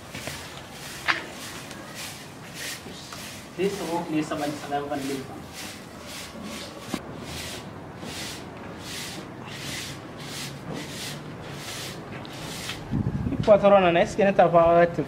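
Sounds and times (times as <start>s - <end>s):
broom sweeping dirt ground: 0.0s - 12.9s.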